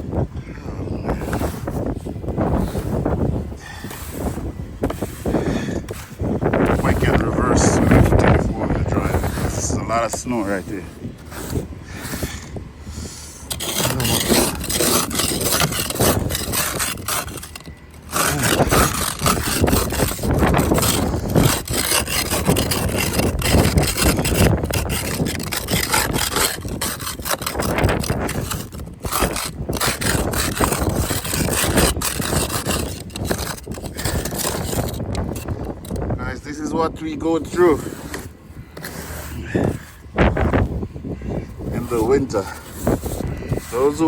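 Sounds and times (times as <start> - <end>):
scraping ice off car: 1.0 - 44.0.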